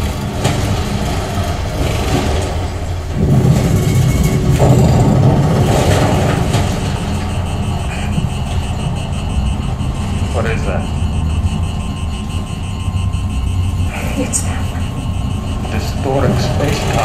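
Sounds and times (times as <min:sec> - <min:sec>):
deep rumble through speakers: 0:00.0 - 0:17.0.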